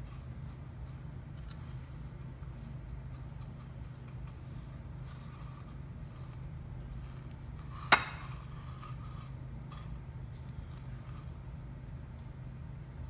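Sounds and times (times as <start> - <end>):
breadcrumbs rustling: 0.0 - 13.0.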